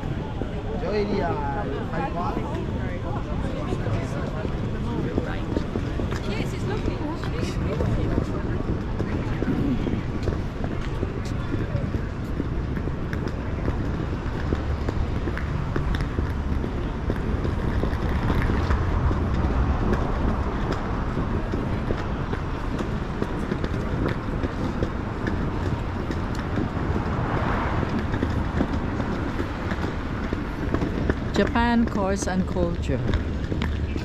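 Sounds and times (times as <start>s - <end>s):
low rumble of passing traffic: 0.0s - 34.0s.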